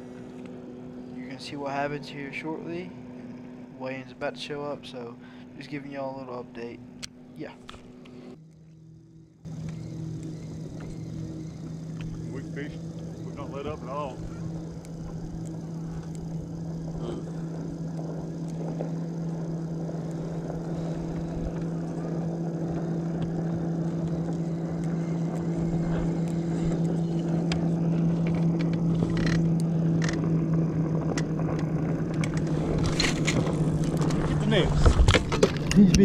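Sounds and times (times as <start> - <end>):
boat motor humming: 0.0 - 36.0.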